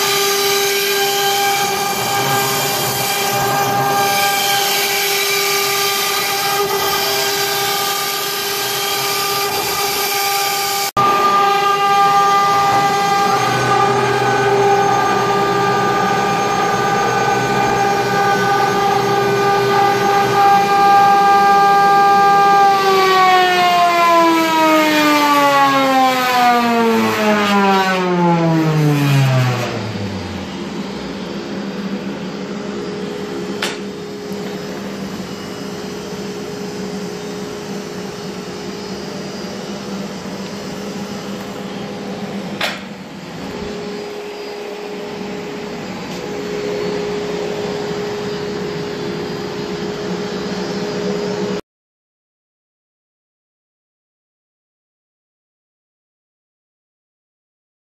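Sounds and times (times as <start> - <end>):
machine hum: 0.0 - 24.7, 26.6 - 51.6
router spindle whine: 0.0 - 51.6.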